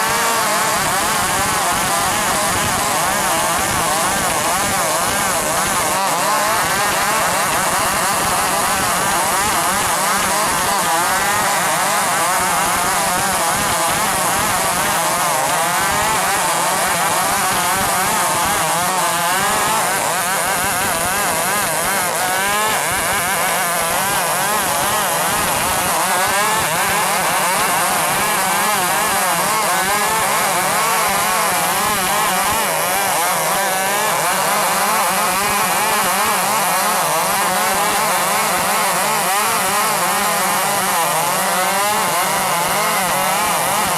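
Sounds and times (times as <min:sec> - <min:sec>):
chainsaw cutting through wood: 0:00.0 - 0:43.9.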